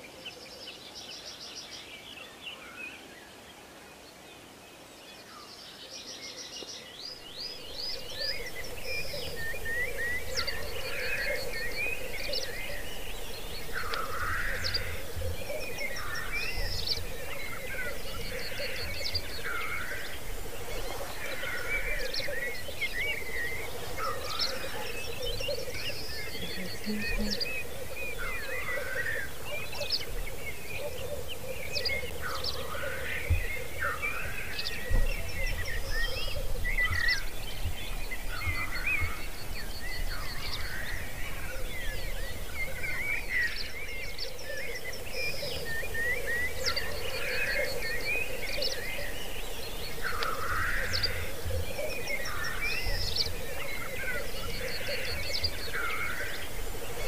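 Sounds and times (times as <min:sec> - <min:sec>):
bubbling grouse chorus: 0:07.5 - 0:57.0.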